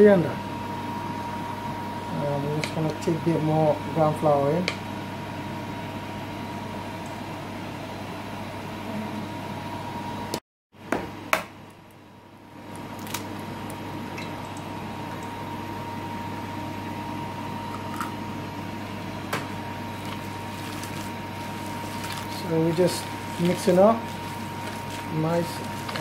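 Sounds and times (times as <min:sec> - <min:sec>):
steady electrical hum: 0:00.0 - 0:10.3, 0:11.2 - 0:26.0.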